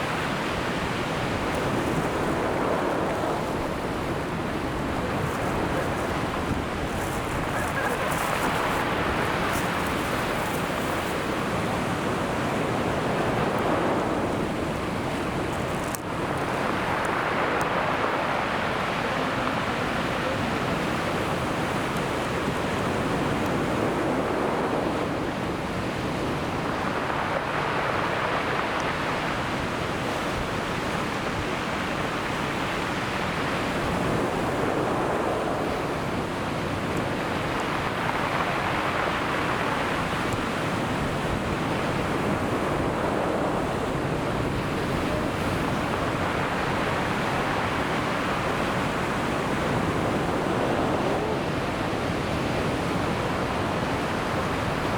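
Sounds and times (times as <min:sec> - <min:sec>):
sea waves breaking on beach: 0:00.0 - 0:54.9.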